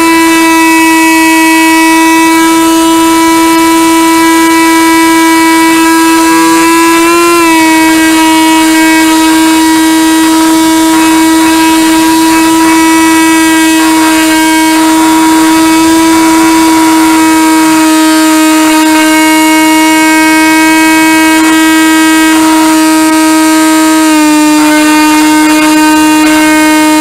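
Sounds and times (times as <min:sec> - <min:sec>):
model airplane motor whine: 0:00.0 - 0:27.0.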